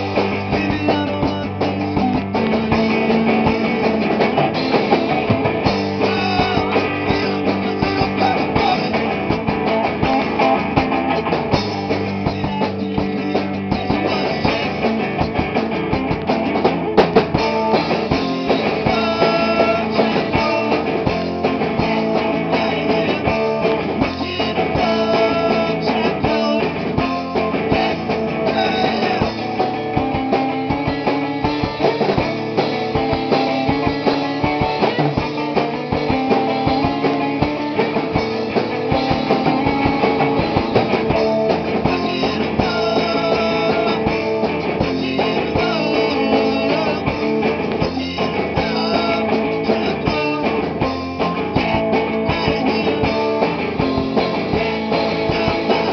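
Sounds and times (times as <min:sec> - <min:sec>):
drum kit playing: 0:00.0 - 0:55.9
electric guitar: 0:00.0 - 0:55.9.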